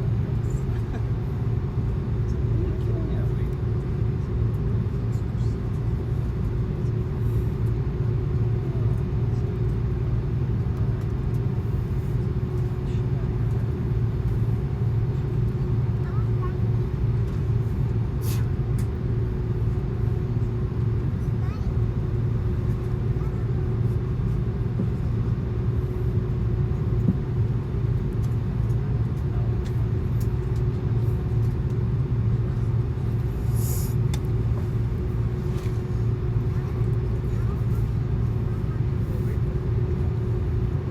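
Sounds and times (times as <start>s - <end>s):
constant hum: 0.0s - 40.9s
low rumble of airliner cabin: 0.0s - 40.9s.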